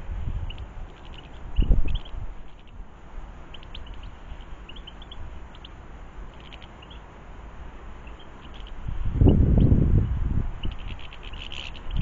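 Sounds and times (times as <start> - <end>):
low steady rumble: 0.0 - 12.0
small birds chirping: 0.3 - 7.2, 7.8 - 12.0.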